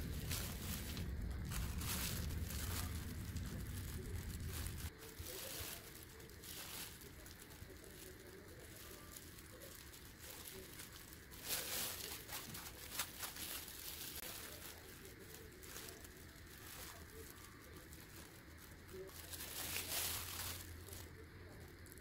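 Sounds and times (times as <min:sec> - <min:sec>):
plastic gloves crinkling: 0:00.0 - 0:22.0.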